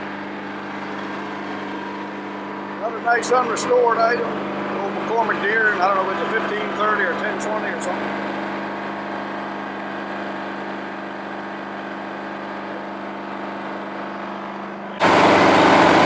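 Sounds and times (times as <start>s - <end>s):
broad rushing noise: 0.0s - 16.0s
engine idling hum: 0.0s - 16.0s.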